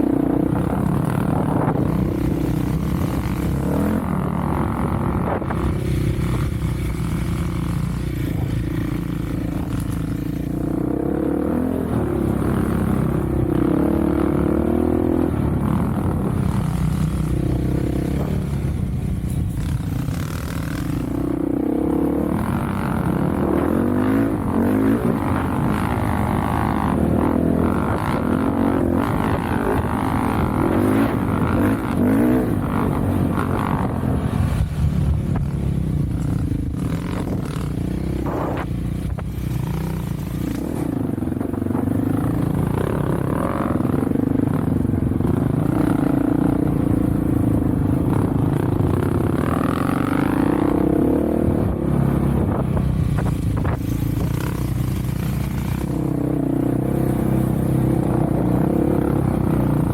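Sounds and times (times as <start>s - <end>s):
off-road vehicle engine: 0.0s - 59.9s.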